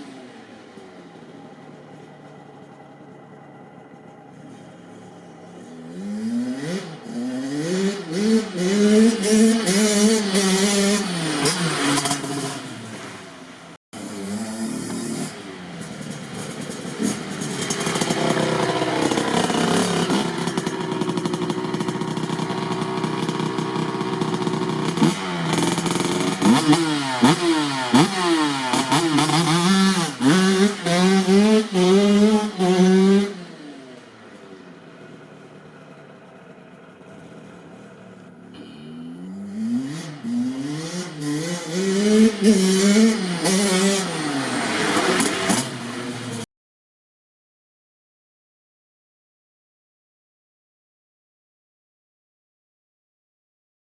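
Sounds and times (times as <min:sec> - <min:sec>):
dirt bike engine revving: 0:00.0 - 0:13.3, 0:14.0 - 0:34.4, 0:37.0 - 0:46.4.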